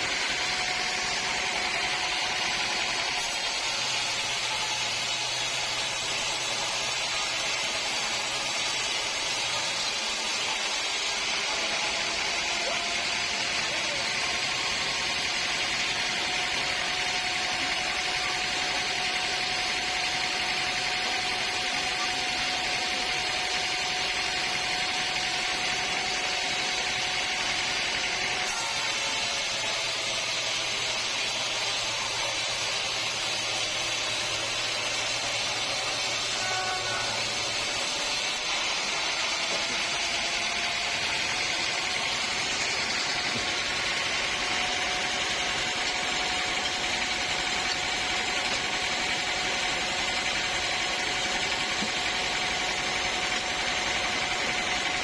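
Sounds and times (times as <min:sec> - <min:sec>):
woodworking machinery running: 0:00.0 - 0:55.0.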